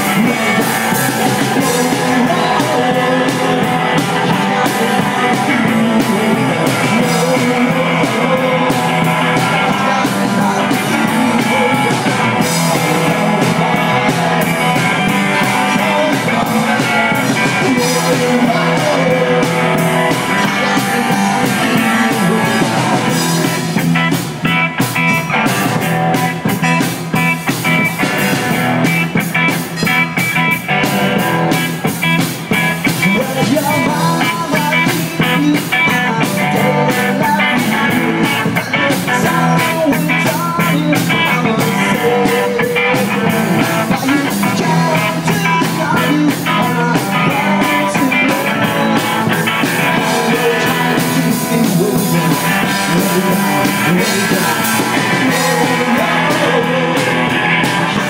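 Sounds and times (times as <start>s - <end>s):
person singing into a mic: 0.0s - 24.1s, 32.6s - 58.0s
rock band playing live: 0.0s - 58.0s.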